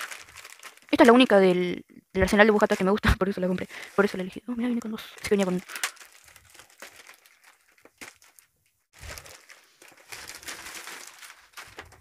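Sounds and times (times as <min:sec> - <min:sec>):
plastic wrapping crinkling: 0:00.0 - 0:01.6, 0:02.5 - 0:12.0.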